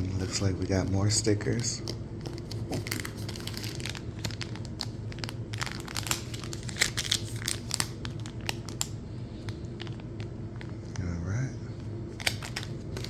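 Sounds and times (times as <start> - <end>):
crinkly packaging rustling: 0.0 - 10.8, 12.1 - 13.0.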